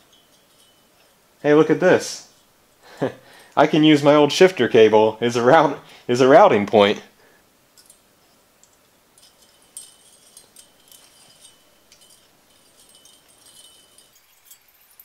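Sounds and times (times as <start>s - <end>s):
wire light string ticking and rustling: 0.0s - 4.8s, 7.6s - 15.0s.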